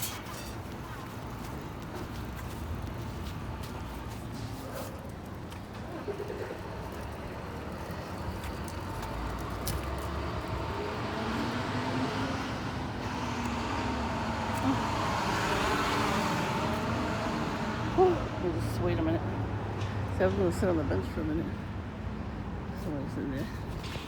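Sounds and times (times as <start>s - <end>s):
passing vehicle engine and tyres: 0.0s - 24.0s.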